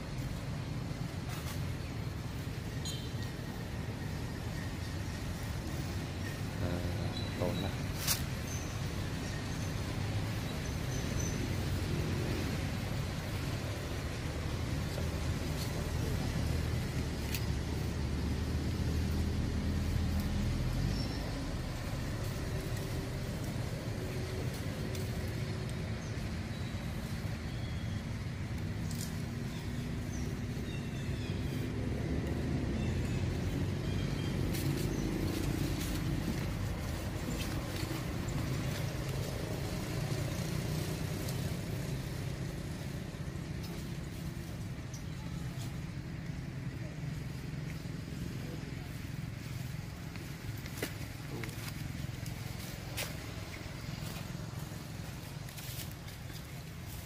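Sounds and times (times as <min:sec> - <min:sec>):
motor vehicle engine rumble: 0:00.0 - 0:57.0.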